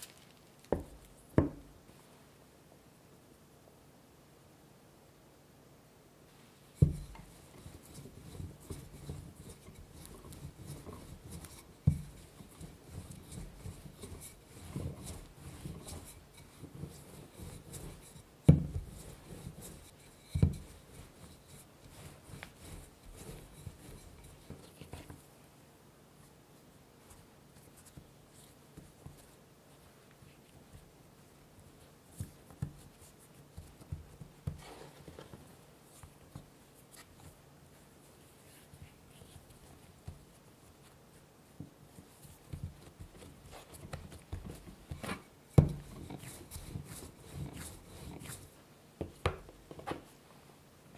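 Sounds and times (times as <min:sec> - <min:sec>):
hands patting dough: 0:00.0 - 0:01.9, 0:06.7 - 0:25.4, 0:27.0 - 0:50.2
rolling pin rolling dough: 0:00.7 - 0:01.8, 0:06.6 - 0:25.4, 0:27.0 - 0:50.2.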